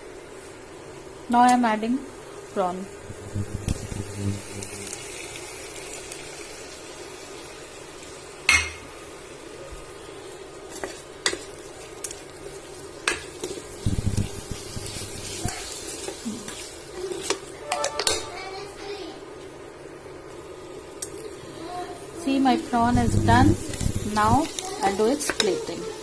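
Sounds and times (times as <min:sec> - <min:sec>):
prawns sizzling in a pan: 0:00.0 - 0:26.0.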